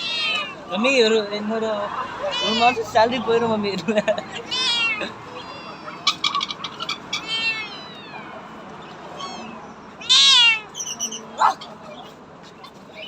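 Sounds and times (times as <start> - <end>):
cats meowing: 0.0 - 0.8, 2.2 - 3.2, 4.2 - 13.0.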